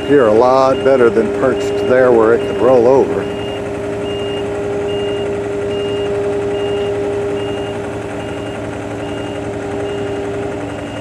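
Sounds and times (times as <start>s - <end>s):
heavy machine engine running: 0.0s - 11.0s
reversing alarm beeping: 0.0s - 11.0s.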